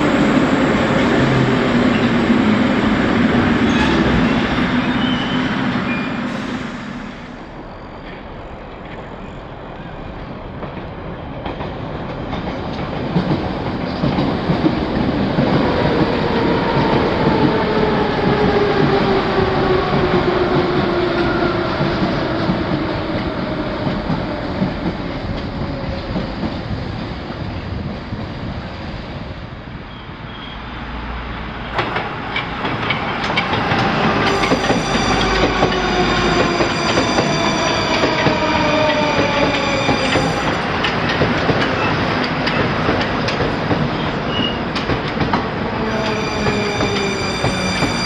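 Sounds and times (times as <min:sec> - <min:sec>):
train rolling by: 0:00.0 - 0:48.0.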